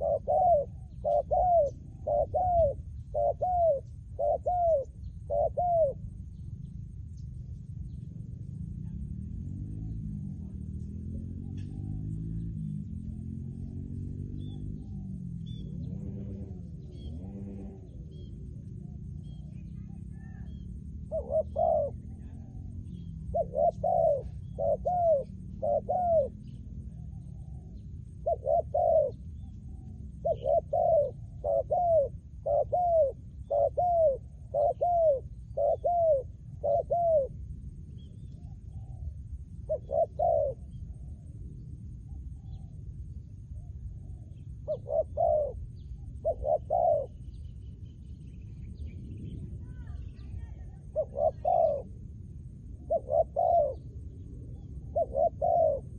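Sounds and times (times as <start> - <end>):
dove cooing: 0.0 - 6.6, 7.9 - 41.4, 43.6 - 47.4, 49.6 - 52.1, 52.7 - 55.9.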